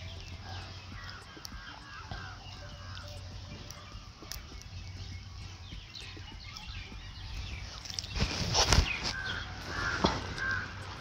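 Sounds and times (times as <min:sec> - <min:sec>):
birds chirping: 0:00.0 - 0:11.0
low background noise: 0:00.0 - 0:11.0.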